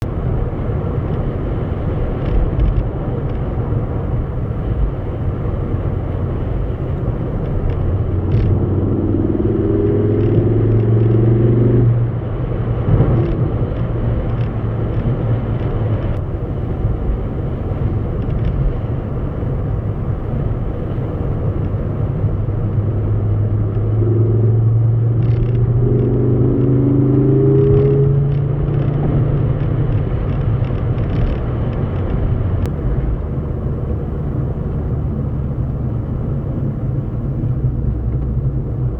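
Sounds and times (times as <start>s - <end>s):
motor vehicle engine rumbling: 0.0s - 38.9s.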